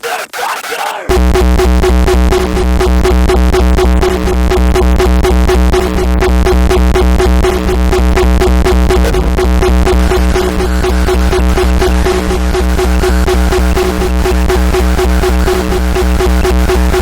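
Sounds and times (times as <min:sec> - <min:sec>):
fast synthesizer beat: 0:00.0 - 0:17.0
heavy sustained bass: 0:01.1 - 0:17.0.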